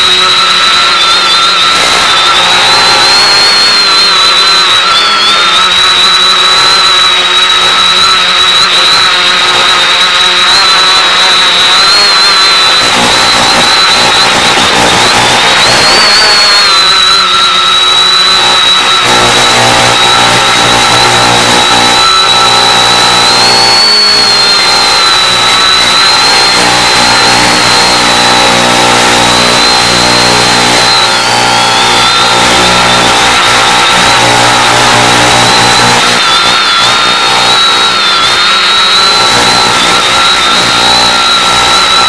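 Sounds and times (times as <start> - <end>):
drone motors buzzing and whining: 0.0 - 42.0.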